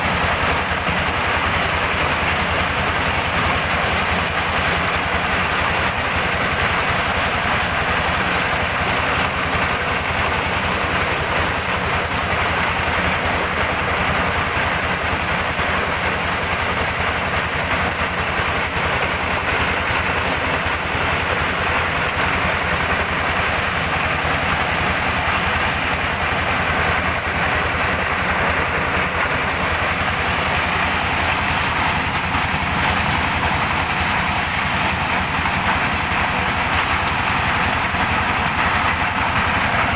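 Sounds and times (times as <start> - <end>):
corn sheller running: 0.0 - 39.9.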